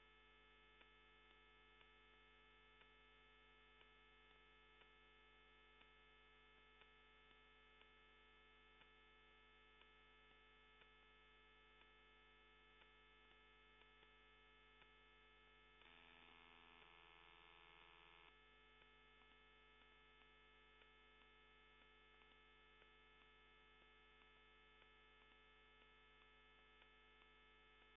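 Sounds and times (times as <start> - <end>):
faint regular ticks: 0.0 - 27.9
steady electrical hum: 0.0 - 27.9.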